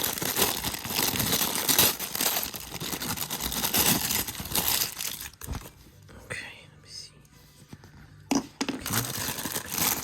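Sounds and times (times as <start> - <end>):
plastic and cardboard rustling: 0.0 - 6.1, 7.5 - 10.0.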